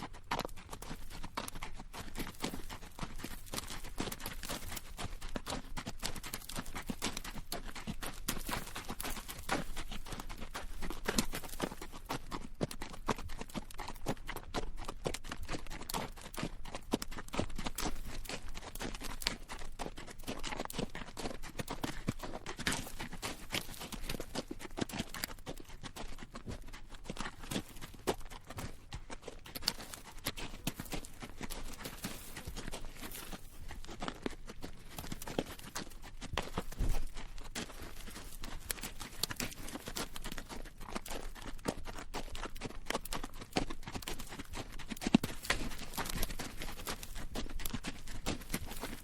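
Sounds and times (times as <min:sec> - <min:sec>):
horse hooves on rocky dirt: 0:00.0 - 0:49.0.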